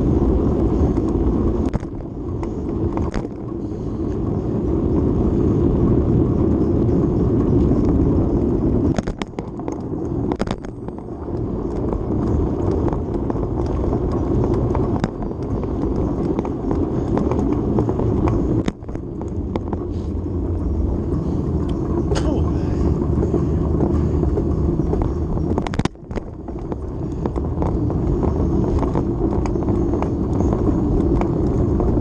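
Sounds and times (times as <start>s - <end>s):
sharp clicks and rattles: 0.0s - 32.0s
wind rushing over microphone: 0.0s - 32.0s
tyre rumble on pavement: 4.6s - 32.0s.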